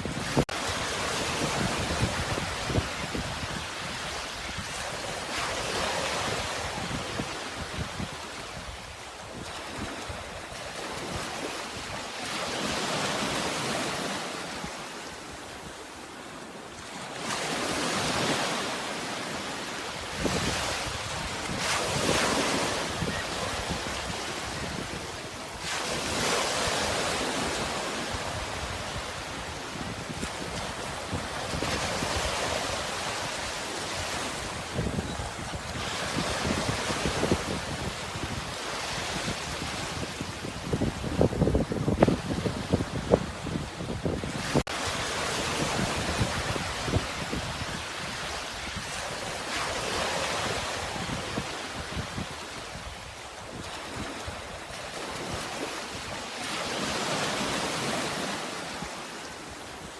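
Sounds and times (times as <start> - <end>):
sea waves washing on shore: 0.0 - 59.9
wind: 0.0 - 59.9.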